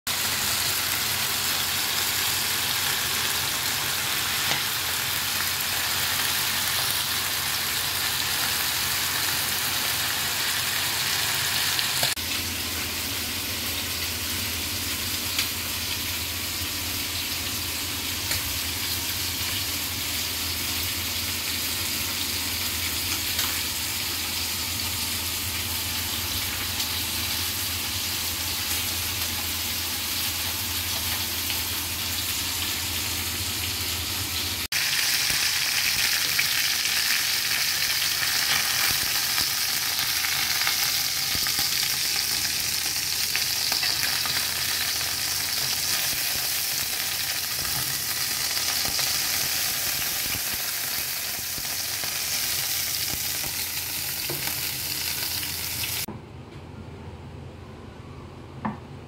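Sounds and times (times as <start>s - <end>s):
chicken sizzling in a skillet: 0.1s - 56.1s.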